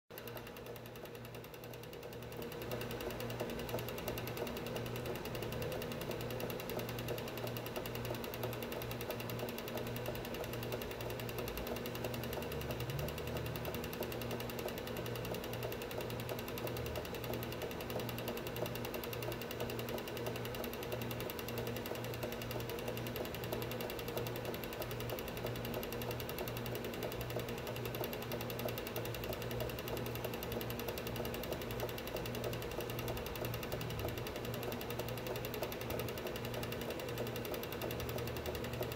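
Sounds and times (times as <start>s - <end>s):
film projector clattering: 0.2s - 38.9s.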